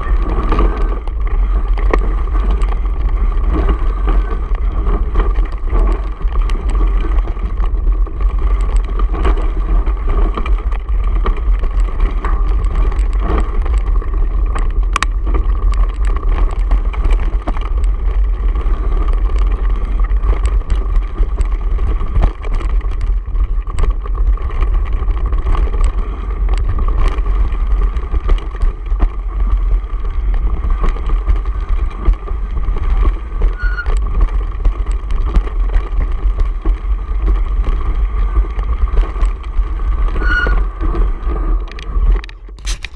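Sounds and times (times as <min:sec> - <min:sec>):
bike rattling over rocks: 0:00.0 - 0:42.9
wind buffeting microphone: 0:00.0 - 0:42.9.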